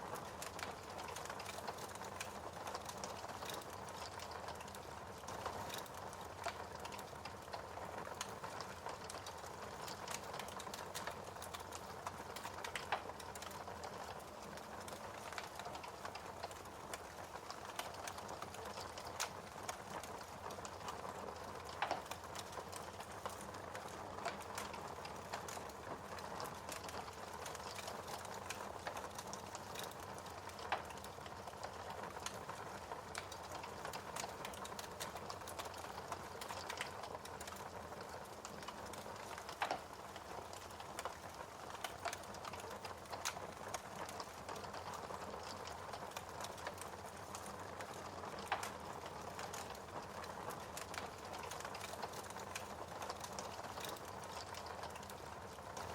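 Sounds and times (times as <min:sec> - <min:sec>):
wood fire crackling: 0:00.0 - 0:55.9
fire popping: 0:00.2 - 0:55.9.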